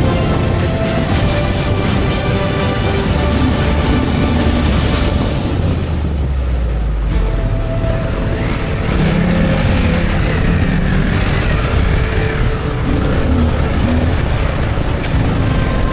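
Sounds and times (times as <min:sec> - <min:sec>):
dirt bike engine running: 0:00.0 - 0:15.9.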